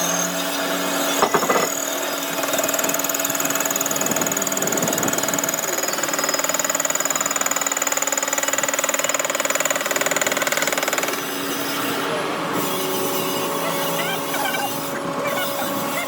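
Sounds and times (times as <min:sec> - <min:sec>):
power tool buzzing and whining: 0:00.0 - 0:16.0.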